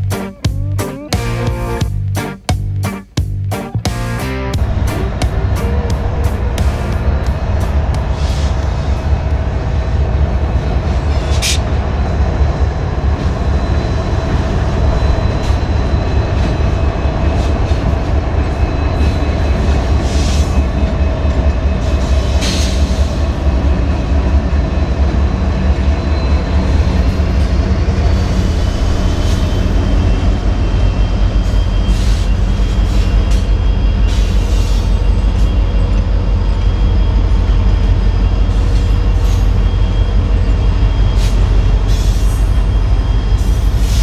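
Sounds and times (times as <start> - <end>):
train rumbling on rails: 0.0 - 44.0.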